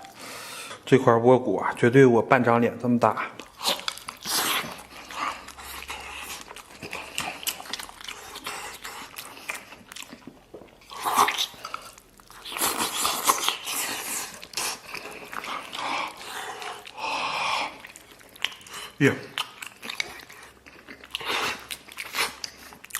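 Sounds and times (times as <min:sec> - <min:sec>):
man chewing cartilage: 0:00.0 - 0:00.8, 0:03.2 - 0:22.9.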